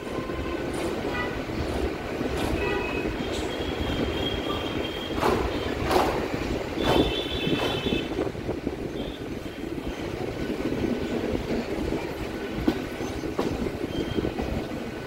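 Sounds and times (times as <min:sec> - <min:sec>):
train clanks: 0:00.0 - 0:15.0
train rumbling on track: 0:00.0 - 0:15.0.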